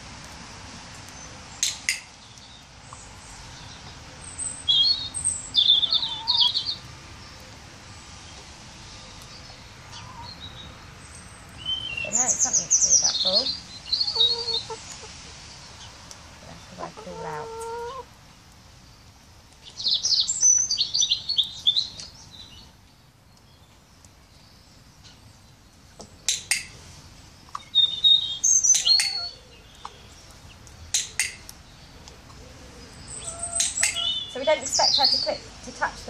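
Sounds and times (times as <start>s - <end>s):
small birds chirping: 0.9s - 36.0s.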